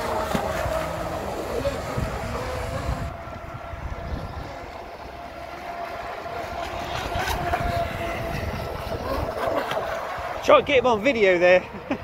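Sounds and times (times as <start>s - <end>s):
toy boat motor whining: 0.0s - 12.0s.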